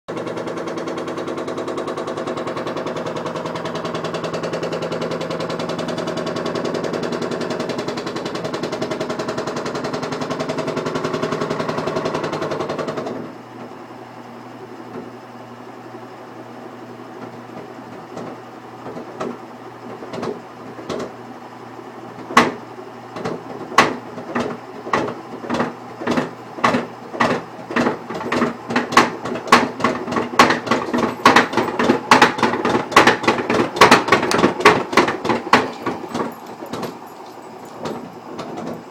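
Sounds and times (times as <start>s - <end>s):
washing machine knocking: 0.1s - 13.2s, 17.2s - 19.4s, 20.0s - 21.2s, 22.2s - 38.9s
washing machine whirring: 0.1s - 38.9s.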